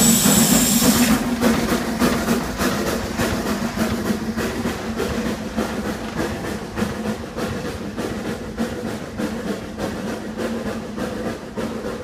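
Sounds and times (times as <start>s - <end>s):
steam locomotive exhaust beating: 0.0s - 12.0s.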